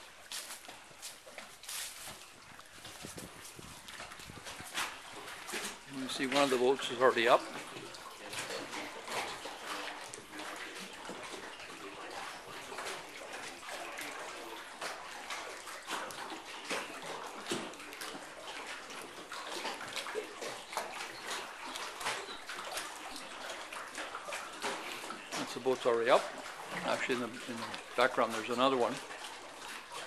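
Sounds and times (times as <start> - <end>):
water lapping against pilings: 0.0 - 30.0.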